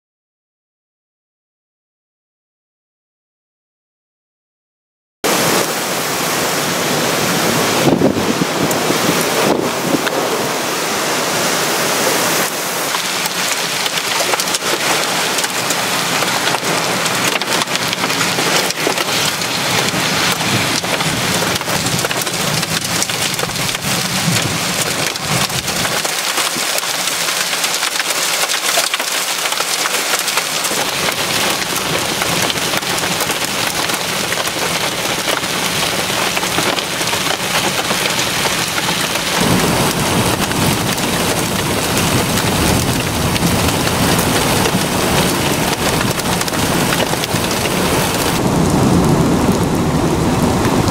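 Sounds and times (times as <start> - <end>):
heavy rain pouring: 5.2 - 50.9
strong wind: 5.3 - 26.3, 30.7 - 50.9
rain hitting hard surfaces: 5.3 - 50.9.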